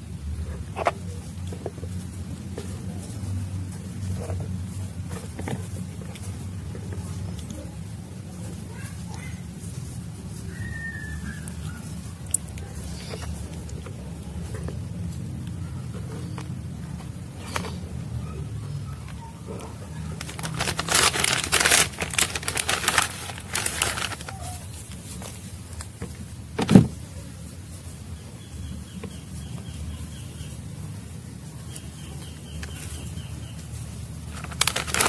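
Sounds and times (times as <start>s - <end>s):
rustling and crinkling: 0.2s - 28.1s, 31.2s - 35.0s.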